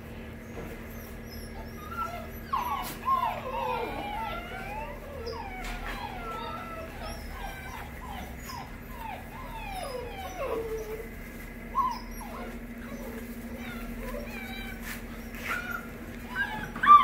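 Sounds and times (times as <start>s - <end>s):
puppies whimpering and whining: 0.0s - 17.0s
puppy yelp: 0.4s - 11.1s, 11.7s - 17.0s.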